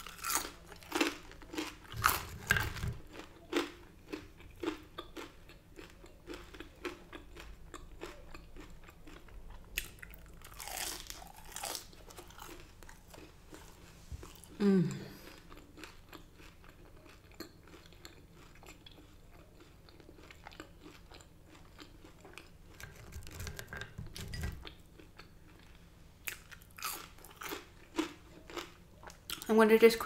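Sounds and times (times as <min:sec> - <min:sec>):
chewing: 0:00.0 - 0:29.5
crunching food: 0:00.0 - 0:29.5.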